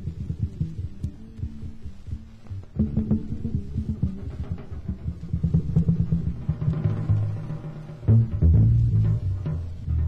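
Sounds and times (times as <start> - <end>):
double bass notes: 0.0 - 10.0
light drum strokes: 0.0 - 10.0.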